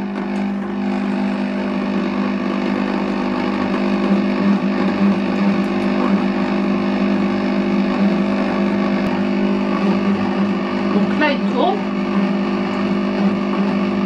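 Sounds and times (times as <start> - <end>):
cooking robot motor humming: 0.0 - 14.0.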